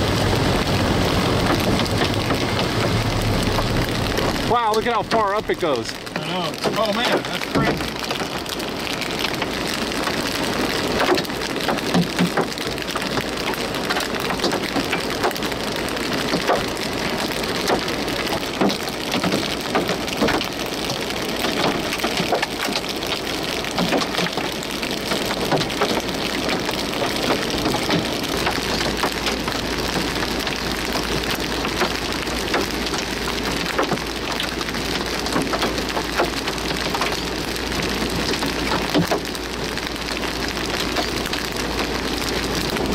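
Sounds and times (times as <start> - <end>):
heavy rain falling: 0.0 - 42.9
raindrops ticking on hard surface: 0.0 - 42.9.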